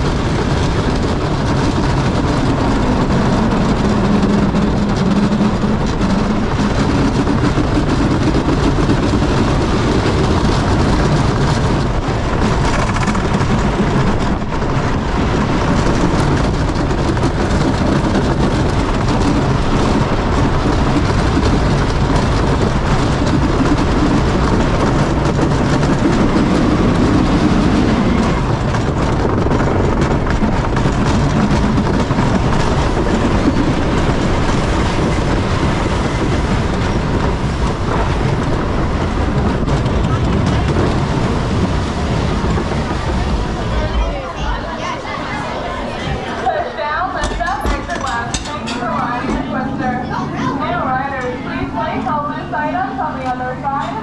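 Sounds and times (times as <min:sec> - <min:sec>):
roller coaster wheels rumbling: 0:00.0 - 0:54.0.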